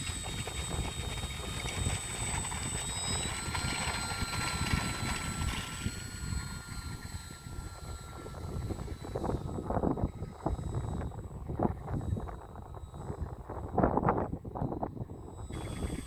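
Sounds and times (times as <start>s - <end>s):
model aircraft motor whine: 0.0s - 16.0s
wind rumbling on microphone: 0.0s - 16.0s.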